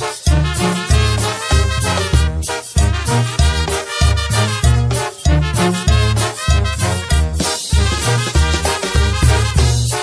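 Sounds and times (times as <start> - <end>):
wind band playing brass: 0.0 - 10.0.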